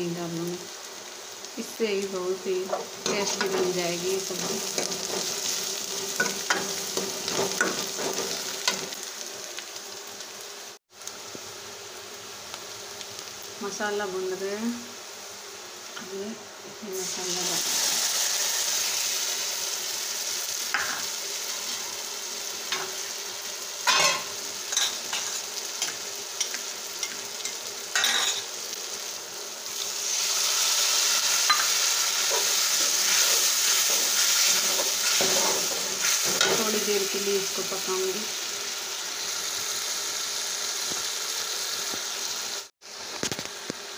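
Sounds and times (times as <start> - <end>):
onion sizzling in oil: 0.0 - 43.9.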